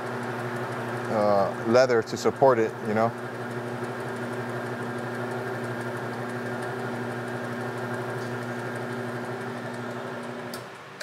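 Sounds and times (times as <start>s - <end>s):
burnishing machine humming: 0.0s - 11.0s.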